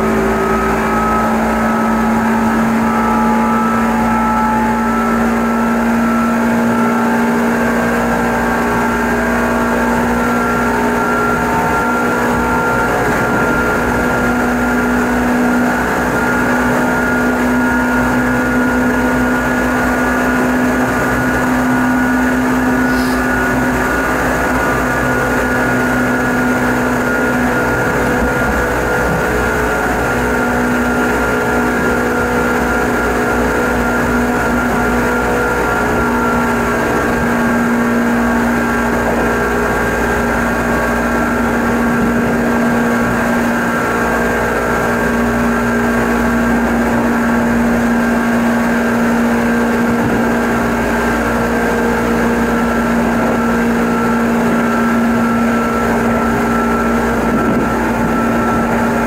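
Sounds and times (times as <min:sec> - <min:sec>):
electric train running: 0:00.0 - 0:59.0
high whine: 0:00.0 - 0:59.0
running gear rumble: 0:00.0 - 0:59.0.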